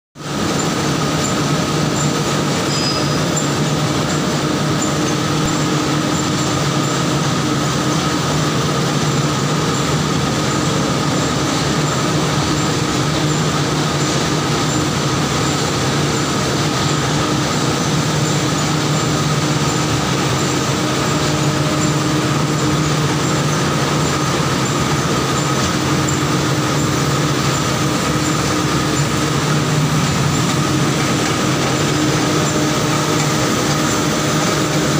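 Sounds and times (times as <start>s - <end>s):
machinery mechanical din: 0.2s - 34.9s
steady low hum: 0.2s - 34.9s.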